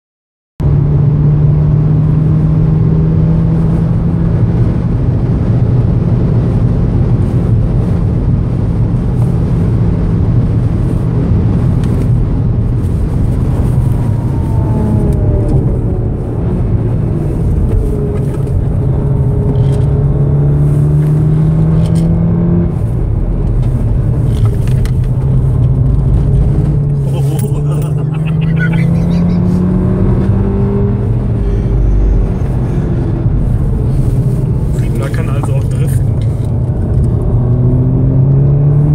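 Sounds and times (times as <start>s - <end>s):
road and wind noise: 0.6s - 38.9s
car engine pulling hard: 0.7s - 38.9s.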